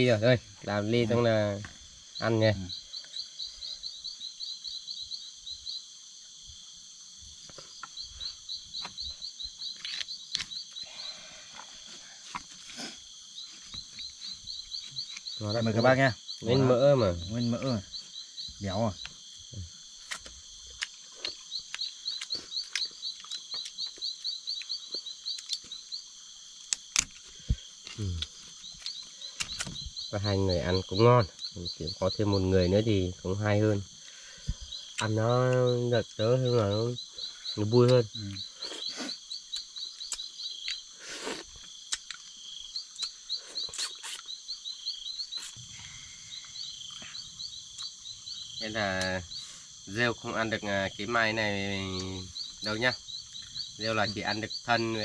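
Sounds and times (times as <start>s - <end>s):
insect chirping: 0.0s - 55.0s
insect drone: 0.0s - 55.0s.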